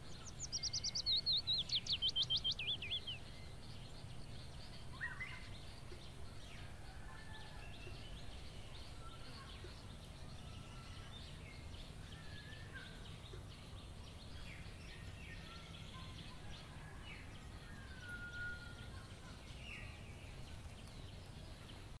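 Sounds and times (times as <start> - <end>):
birds chirping and calling: 0.0 - 21.9.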